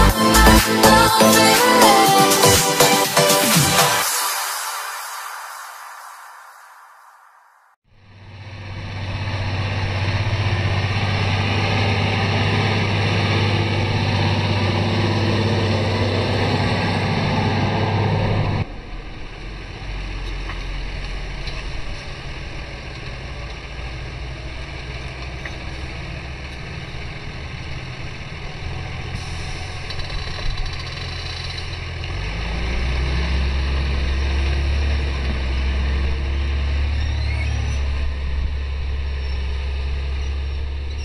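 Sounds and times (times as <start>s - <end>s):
tractor diesel engine running: 0.0s - 3.6s, 7.9s - 41.0s.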